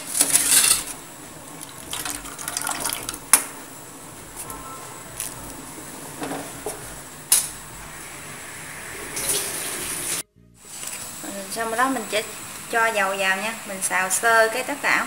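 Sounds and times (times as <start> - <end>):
porridge boiling and bubbling: 0.0 - 14.8.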